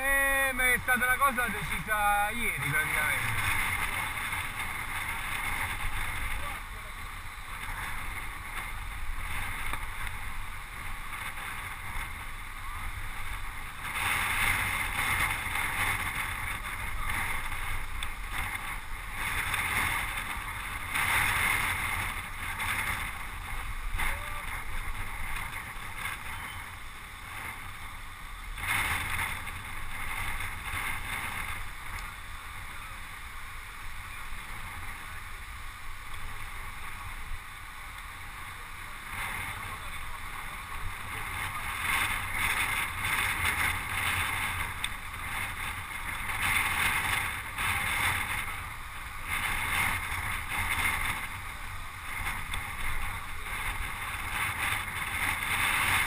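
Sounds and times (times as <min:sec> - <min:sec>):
wind and road noise rushing: 0:00.0 - 0:56.0.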